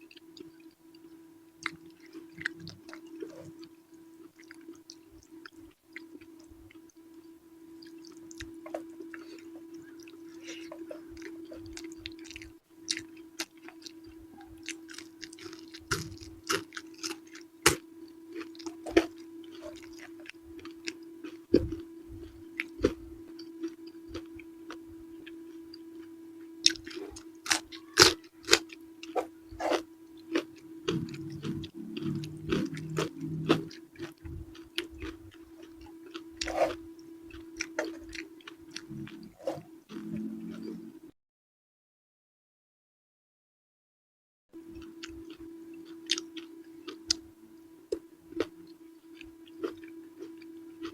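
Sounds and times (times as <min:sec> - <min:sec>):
steady low hum: 0:00.0 - 0:41.2, 0:44.6 - 0:50.9
chewing and biting: 0:01.6 - 0:07.0, 0:07.8 - 0:25.4, 0:26.6 - 0:40.8, 0:44.7 - 0:47.2, 0:47.9 - 0:50.9.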